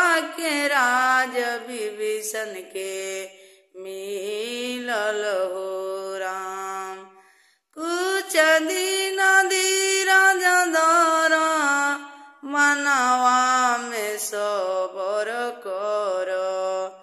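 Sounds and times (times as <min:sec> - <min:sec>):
woman singing unaccompanied: 0:00.0 - 0:07.1, 0:07.8 - 0:17.0.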